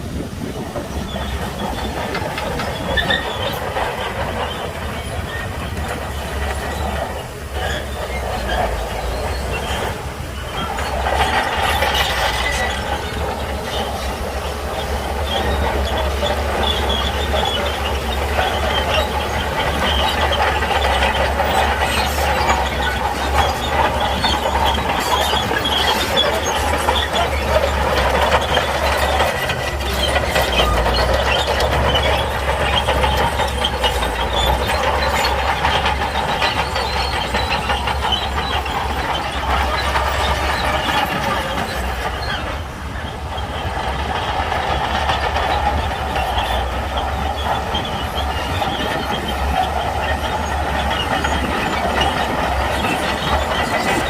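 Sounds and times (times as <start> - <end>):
bulldozer diesel engine running: 0.0 - 54.0
steel tracks clanking and rattling: 0.0 - 54.0.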